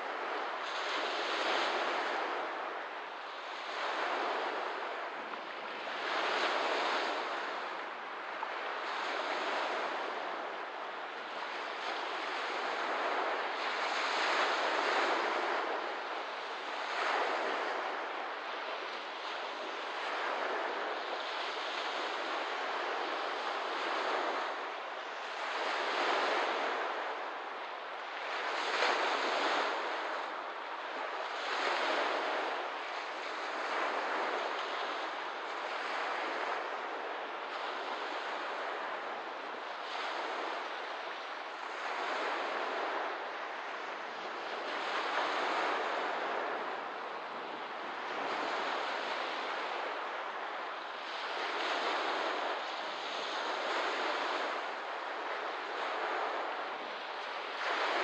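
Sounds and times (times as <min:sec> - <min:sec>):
small waves washing onto shore: 0:00.0 - 0:58.0.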